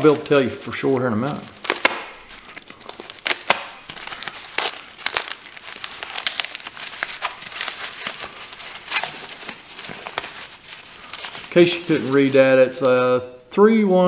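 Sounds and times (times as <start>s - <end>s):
plastic bag crinkling: 0.0s - 13.1s.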